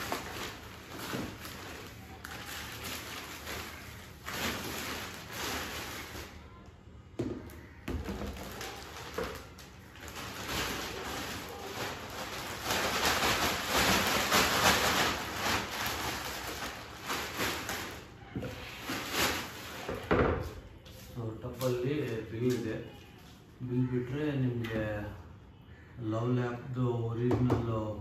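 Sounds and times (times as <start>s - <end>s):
plastic bag rustling: 0.0s - 6.6s, 7.4s - 23.2s.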